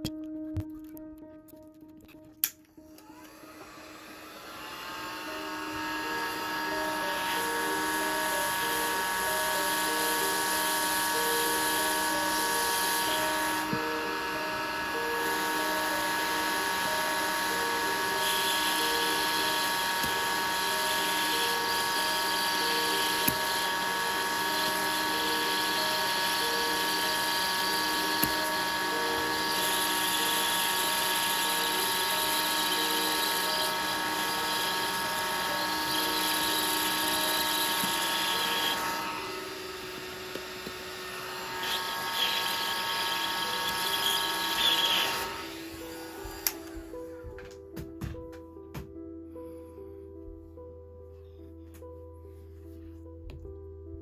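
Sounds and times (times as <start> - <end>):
hot air gun blowing: 3.0 - 46.7.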